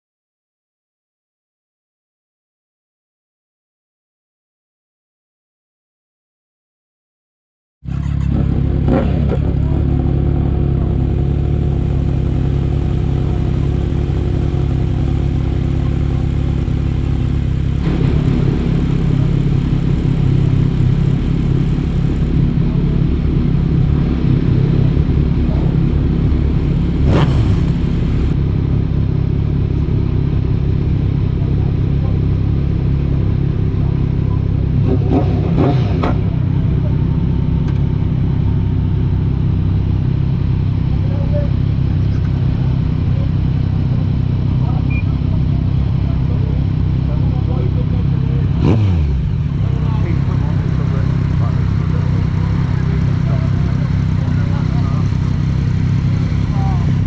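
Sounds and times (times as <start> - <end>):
motorcycle engine running: 7.9 - 57.0.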